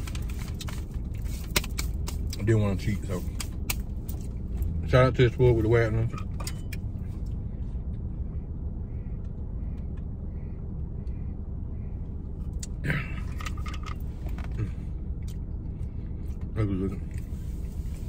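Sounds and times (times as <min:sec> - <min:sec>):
car idling hum: 0:00.0 - 0:18.0.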